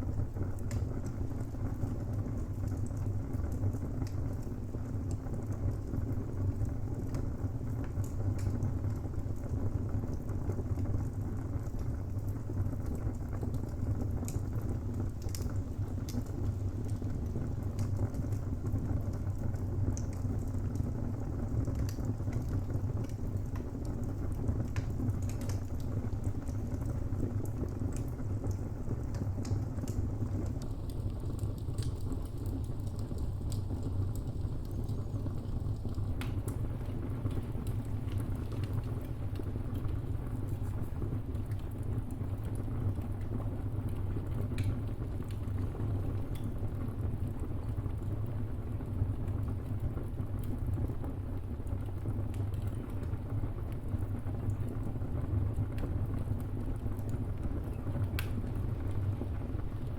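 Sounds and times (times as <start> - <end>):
fire flames rumbling: 0.0 - 59.9
wood crackles and pops: 0.1 - 59.9.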